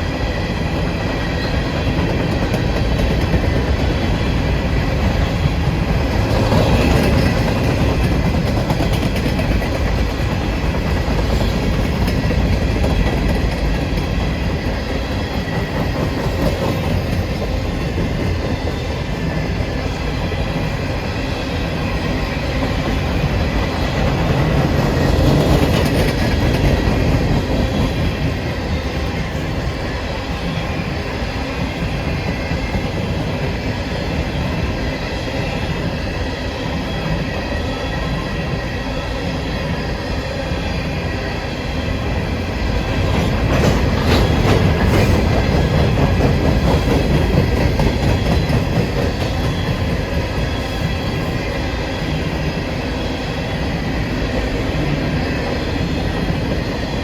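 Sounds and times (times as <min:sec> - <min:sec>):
clickety-clack over rail joints: 0:00.0 - 0:57.0
train wheels rumbling on rail: 0:00.0 - 0:57.0.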